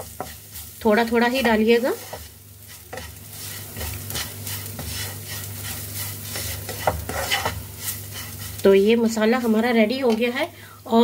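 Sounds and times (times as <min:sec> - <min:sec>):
spatula scraping frying pan: 0:00.0 - 0:10.4
light sizzle: 0:00.0 - 0:11.0.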